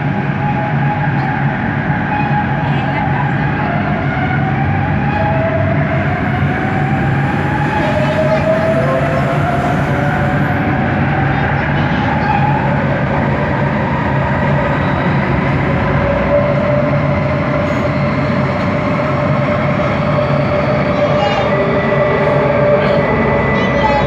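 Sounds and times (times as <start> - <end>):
train rolling noise: 0.0 - 24.0.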